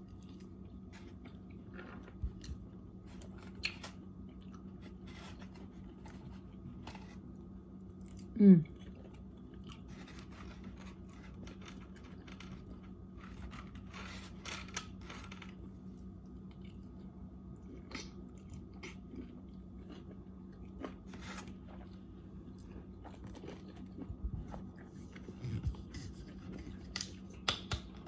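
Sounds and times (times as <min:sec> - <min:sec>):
chewing and crunching: 0:00.0 - 0:28.0
steady low hum: 0:00.0 - 0:28.0.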